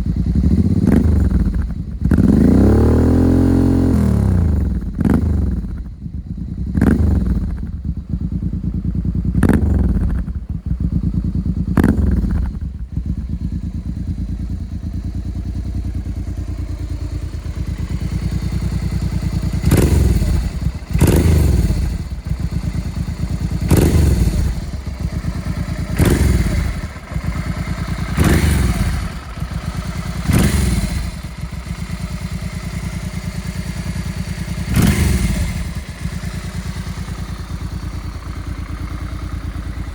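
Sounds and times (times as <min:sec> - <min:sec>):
motorcycle engine idling: 0:00.0 - 0:39.9
motorcycle throttle blips: 0:00.0 - 0:39.9.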